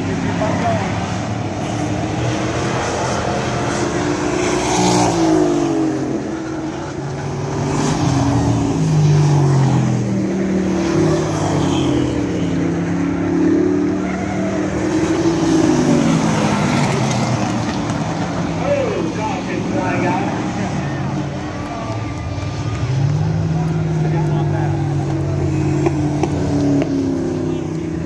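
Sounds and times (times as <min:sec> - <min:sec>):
race truck engines: 0:00.0 - 0:28.0.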